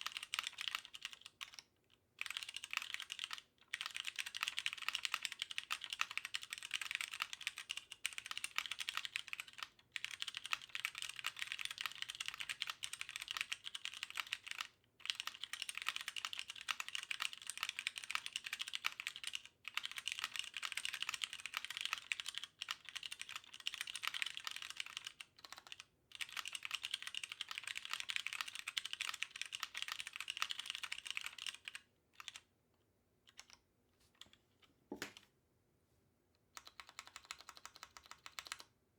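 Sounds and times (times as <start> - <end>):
mechanical keyboard typing: 0.0 - 32.4, 36.6 - 38.7.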